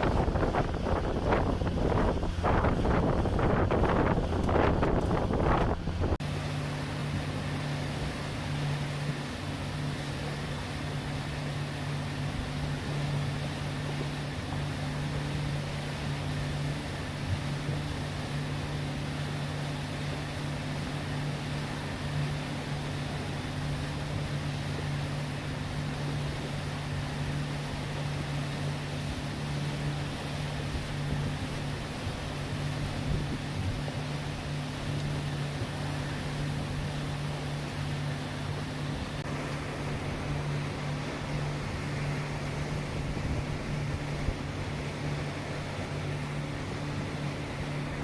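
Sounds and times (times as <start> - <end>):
engine humming steadily: 0.0 - 48.0.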